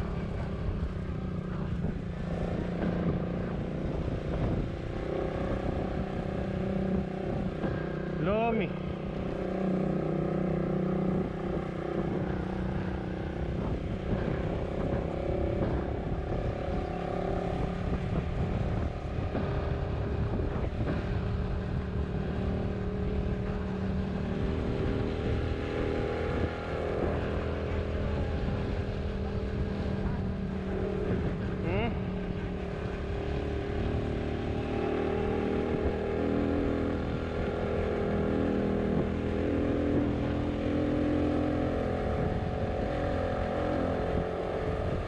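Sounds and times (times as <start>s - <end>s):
motorcycle engine cruising: 0.0s - 45.0s
road and wind noise: 0.0s - 45.0s.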